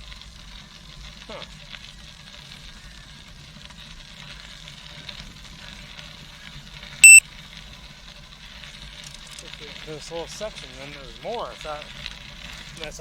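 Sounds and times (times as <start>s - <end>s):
bicycle tyres rolling on gravel: 0.0s - 13.0s.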